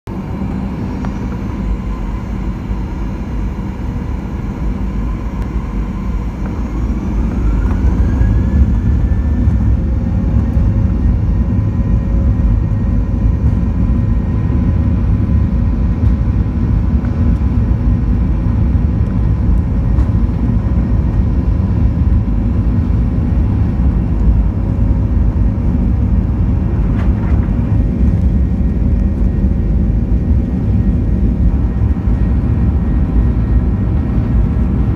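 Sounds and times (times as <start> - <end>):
jet engines spooling up: 0.1 - 34.9.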